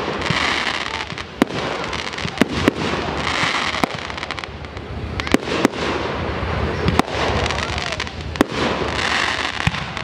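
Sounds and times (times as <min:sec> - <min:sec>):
fireworks bangs: 0:00.0 - 0:10.0
fireworks popping: 0:00.0 - 0:10.0
steady hiss: 0:00.0 - 0:10.0.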